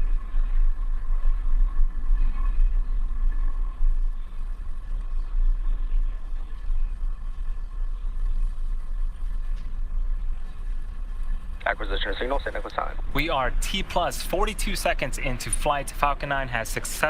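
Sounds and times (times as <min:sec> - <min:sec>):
rocket engines deep fluttering rumble: 0:00.0 - 0:17.0.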